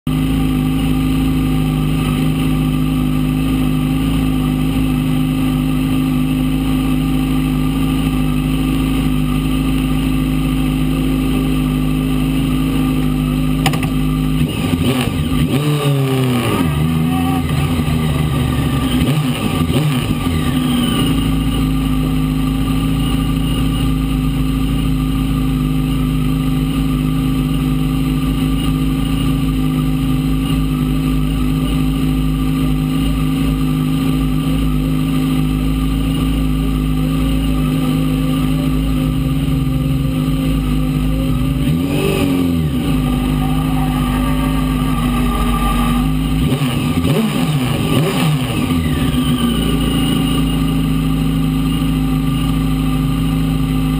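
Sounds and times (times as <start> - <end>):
race car engine idling and revving: 0.0 - 53.9.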